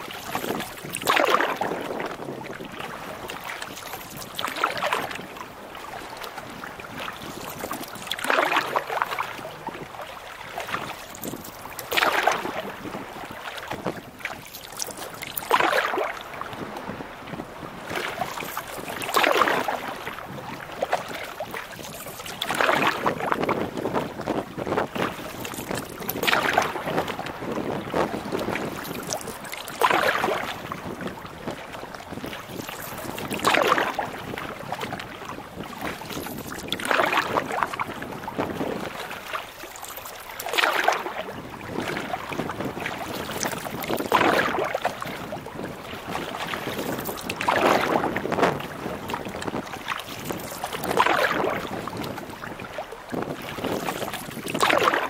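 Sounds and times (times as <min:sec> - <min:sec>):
canoe paddle splashing water: 0:00.0 - 0:55.0
choppy water: 0:00.0 - 0:55.0.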